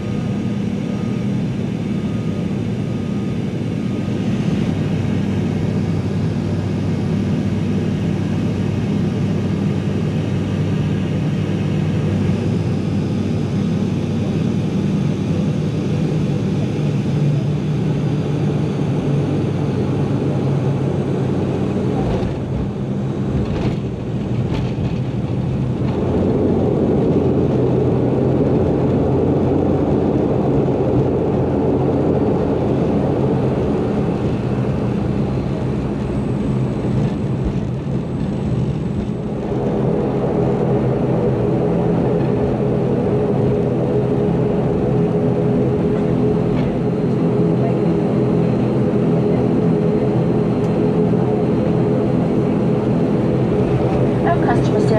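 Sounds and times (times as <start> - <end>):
propeller engine drone: 0.0 - 54.9.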